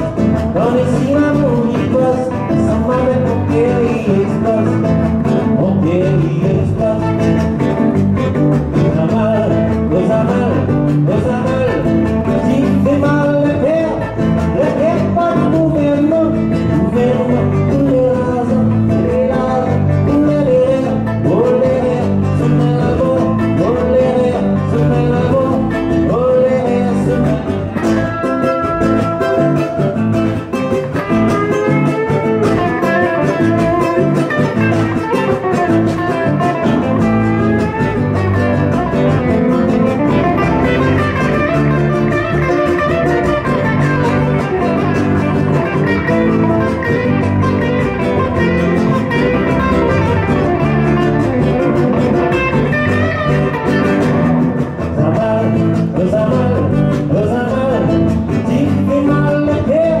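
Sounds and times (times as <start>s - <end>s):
live band on guitars and bass: 0.0s - 60.0s.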